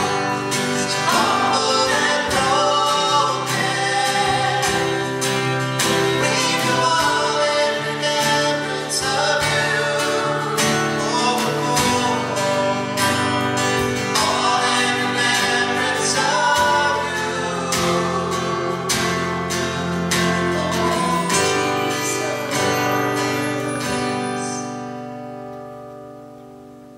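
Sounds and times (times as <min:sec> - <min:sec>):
man and woman singing: 0:00.0 - 0:24.7
strummed acoustic guitar: 0:00.0 - 0:26.9.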